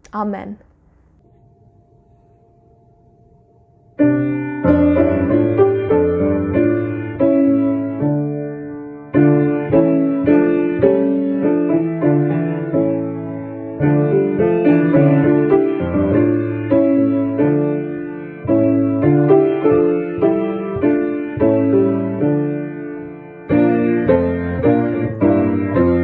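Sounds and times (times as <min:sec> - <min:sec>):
piano playing hymn chords: 0:01.2 - 0:26.0.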